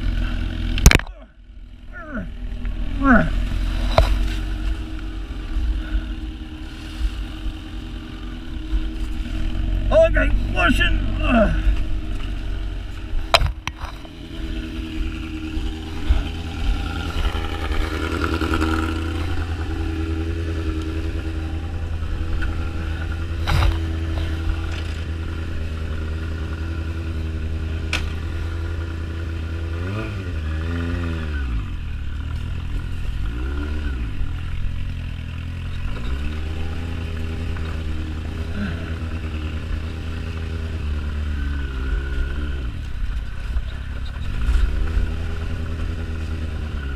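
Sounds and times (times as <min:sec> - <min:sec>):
engine revving: 0:00.0 - 0:46.9
motorcycle engine idling: 0:00.0 - 0:46.9.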